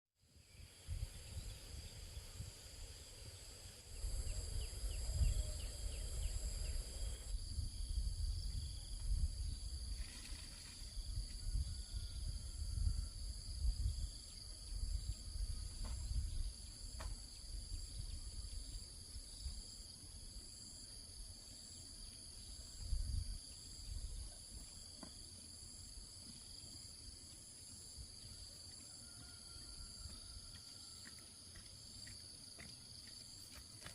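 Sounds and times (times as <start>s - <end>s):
insects trilling: 0.4s - 33.9s.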